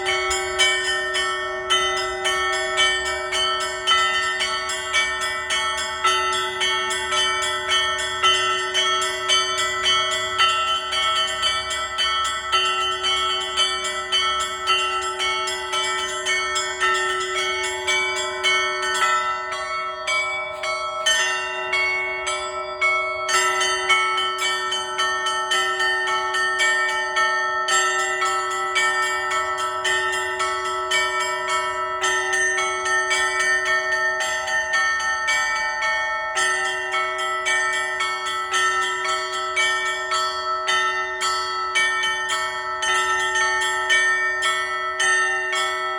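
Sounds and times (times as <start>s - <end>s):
small church bells ringing: 0.0s - 45.9s.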